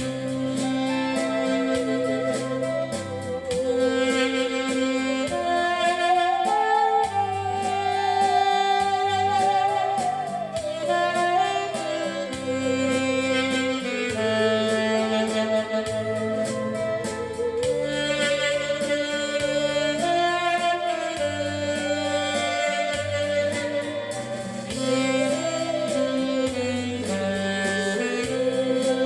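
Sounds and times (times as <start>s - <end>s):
backing track with beat: 0.0s - 29.0s
musical saw melody: 0.0s - 29.0s.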